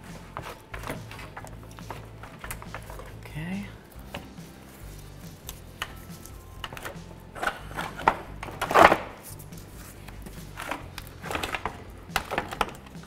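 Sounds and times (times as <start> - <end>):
plastic fan scraping and knocking: 0.0 - 13.0.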